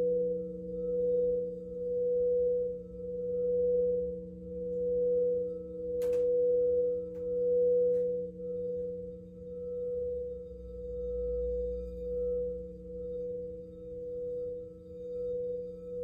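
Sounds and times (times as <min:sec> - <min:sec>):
singing bowls sustained tone: 0:00.0 - 0:16.0.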